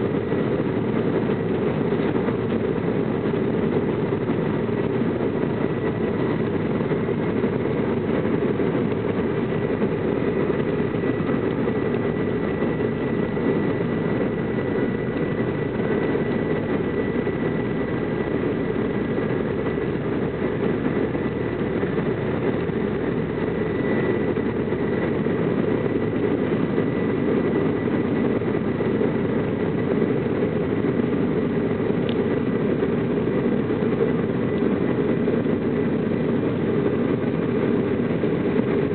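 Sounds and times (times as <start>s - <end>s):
high turbine whine: 0.0s - 38.9s
jet engines roaring: 0.0s - 38.9s.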